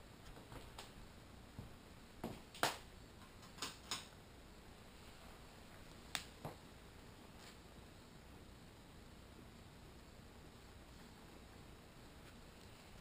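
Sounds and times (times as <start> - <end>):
faint room hiss: 0.0 - 13.0.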